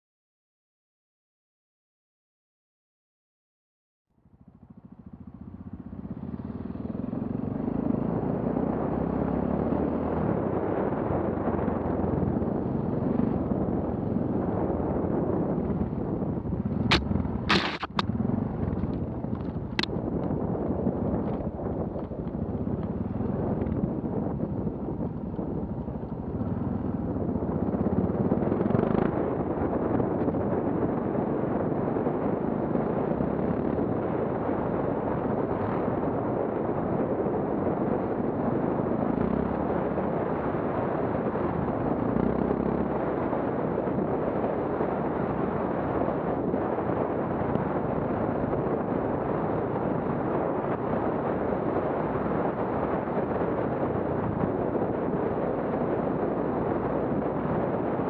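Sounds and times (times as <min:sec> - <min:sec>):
motorcycle engine running: 0:04.1 - 0:58.0
wind rumble on microphone: 0:04.6 - 0:58.0.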